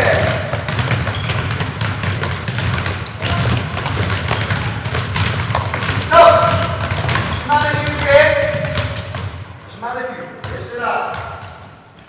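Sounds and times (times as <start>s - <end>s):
footballs dribbled on hall floor: 0.0s - 12.0s.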